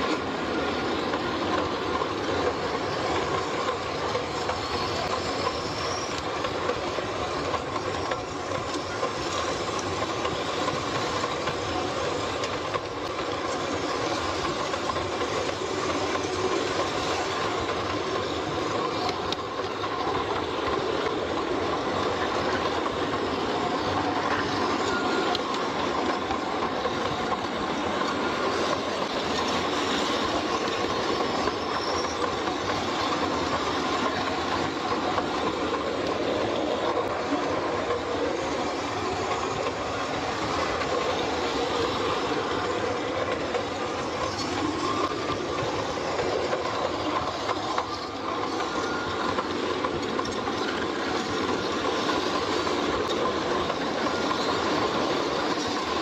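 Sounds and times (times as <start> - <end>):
train wheels clattering on rails: 0.0 - 56.0
high wheel squeals: 2.3 - 19.3, 19.9 - 56.0.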